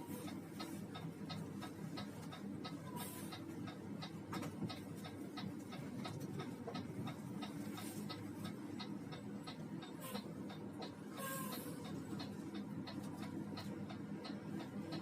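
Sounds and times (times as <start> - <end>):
coach engine drone: 0.0 - 15.0
rapid ticking: 0.2 - 15.0.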